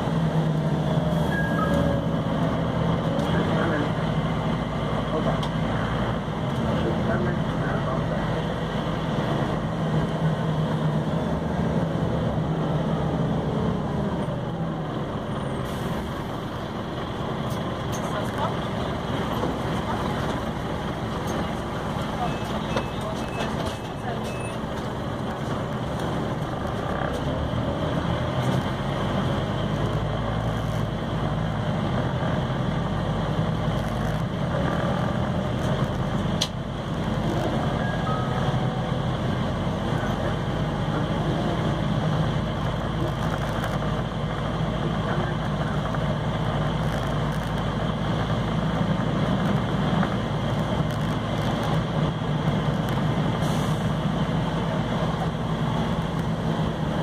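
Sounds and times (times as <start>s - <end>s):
bus diesel engine drone: 0.0s - 57.0s
road and body noise: 0.0s - 57.0s.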